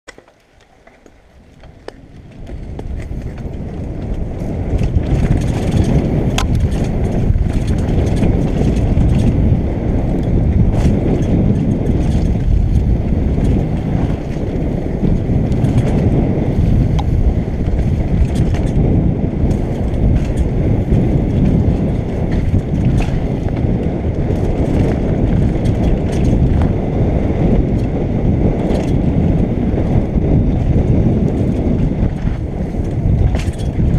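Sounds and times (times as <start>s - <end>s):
bike rattling clicks and knocks: 0.1s - 33.9s
tyres on dirt: 0.1s - 33.9s
wind on microphone: 1.2s - 33.9s.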